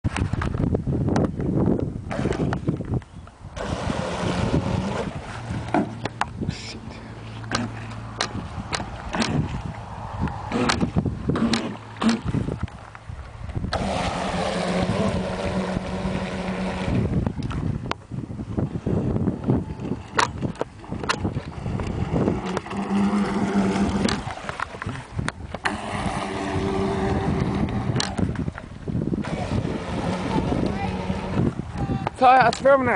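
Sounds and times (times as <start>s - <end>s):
low motor hum: 0.0s - 32.9s.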